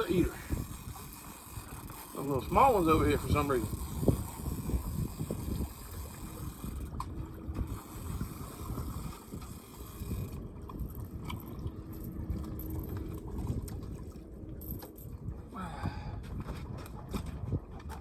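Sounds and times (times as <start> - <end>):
water lapping against hull: 0.0 - 18.0
wind buffeting microphone: 0.0 - 18.0.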